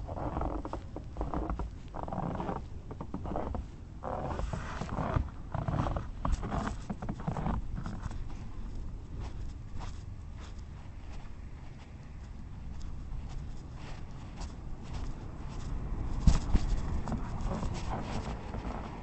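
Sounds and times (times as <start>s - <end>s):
footsteps crunching in snow: 0.1s - 19.0s.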